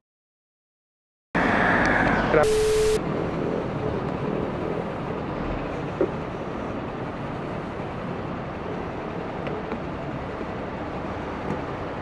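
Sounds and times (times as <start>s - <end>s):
city traffic: 1.4s - 12.0s.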